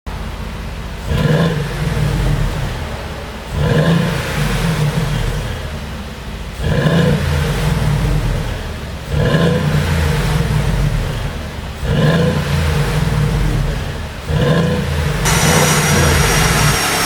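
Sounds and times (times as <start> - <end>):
car engine revving: 0.2 - 17.0.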